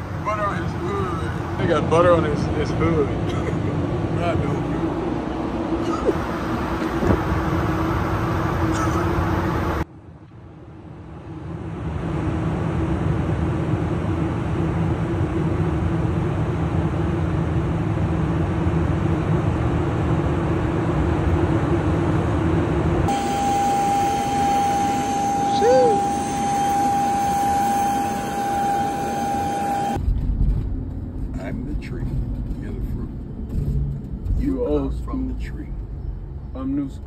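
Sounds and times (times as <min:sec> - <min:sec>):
jet engine high whine: 0:00.0 - 0:34.1
jet cabin roar in flight: 0:00.0 - 0:36.6.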